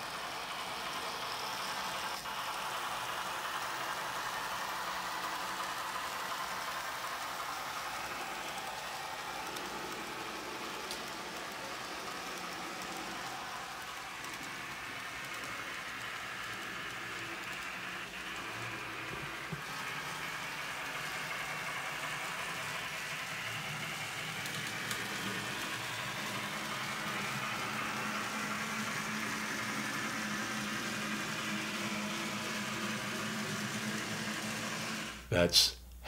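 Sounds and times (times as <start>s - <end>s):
model train rolling: 0.0s - 35.2s.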